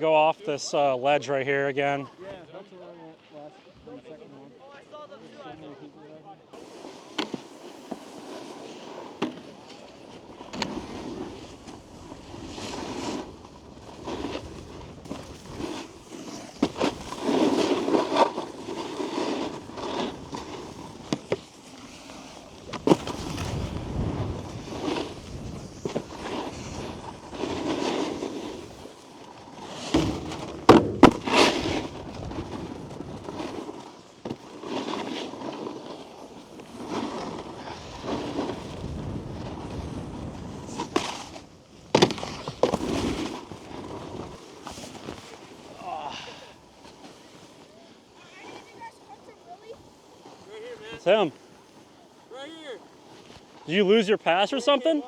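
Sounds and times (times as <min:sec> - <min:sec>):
snowboard scraping over snow: 0:00.1 - 0:55.0.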